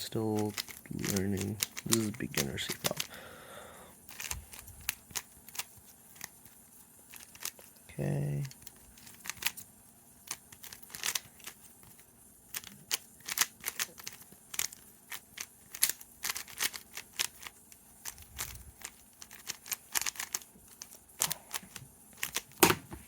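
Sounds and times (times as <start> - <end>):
speed cube plastic clicks: 0.4 - 3.2, 4.1 - 6.5, 7.1 - 7.7, 8.4 - 9.6, 10.2 - 11.6, 12.5 - 22.8.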